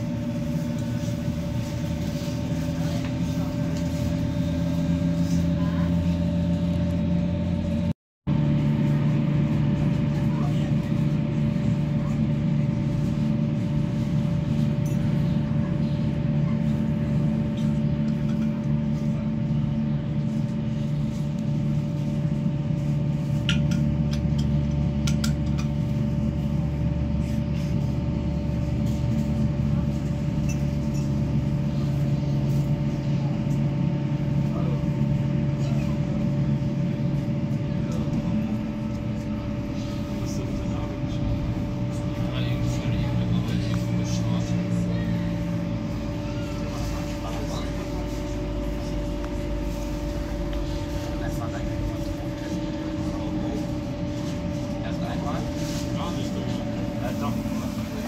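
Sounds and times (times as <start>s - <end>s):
humming whine: 0.0s - 58.0s
train rolling rumble: 0.0s - 58.0s.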